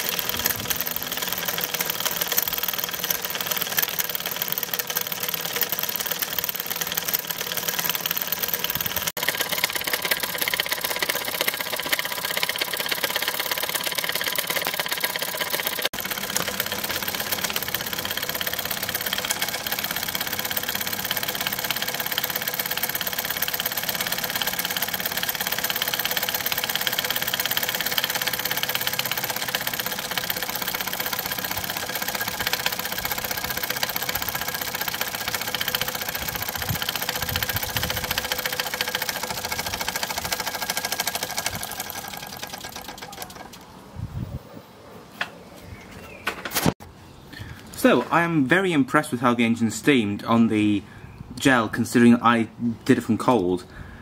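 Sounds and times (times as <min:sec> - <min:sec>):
model steam engine running: 0:00.0 - 0:43.6.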